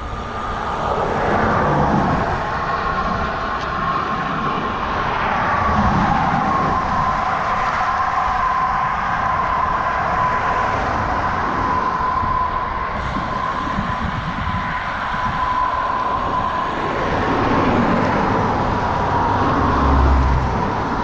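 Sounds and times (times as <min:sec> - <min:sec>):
high whine: 0:00.0 - 0:21.0
road noise: 0:00.0 - 0:21.0
wind rushing over microphone: 0:00.0 - 0:21.0.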